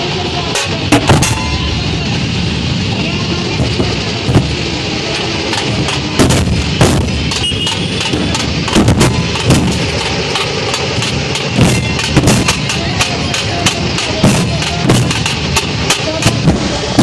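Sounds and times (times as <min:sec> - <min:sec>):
barrel drums beaten with sticks: 0:00.5 - 0:01.6, 0:03.6 - 0:17.0.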